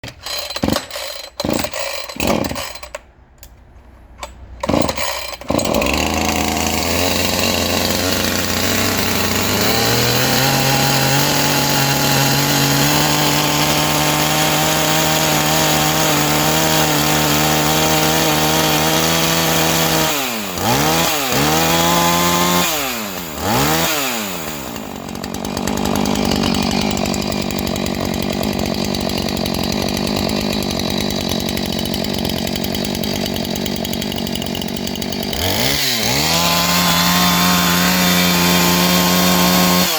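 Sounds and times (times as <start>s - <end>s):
chainsaw engine sputtering and revving: 0.2s - 2.8s, 4.6s - 39.9s.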